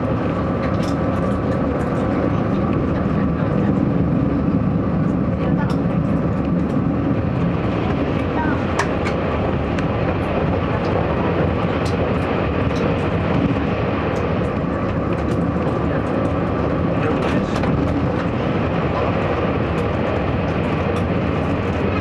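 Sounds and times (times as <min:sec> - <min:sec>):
diesel engine rumble: 0:00.0 - 0:22.0
train wheels on rails: 0:00.0 - 0:22.0.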